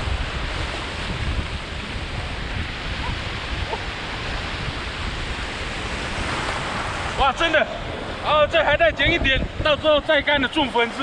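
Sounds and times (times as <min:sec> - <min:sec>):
surf washing on shore: 0:00.0 - 0:11.0
wind buffeting microphone: 0:00.0 - 0:11.0.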